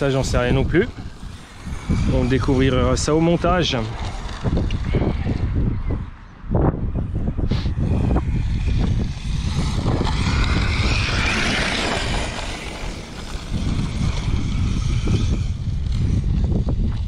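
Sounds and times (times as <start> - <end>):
rc car motor whining: 0.0 - 5.8, 7.7 - 17.0
wind rumble on microphone: 0.0 - 17.0.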